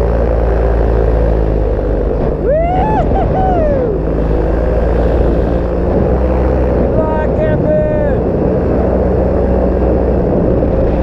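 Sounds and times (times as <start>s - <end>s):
paramotor engine and propeller: 0.0s - 11.0s.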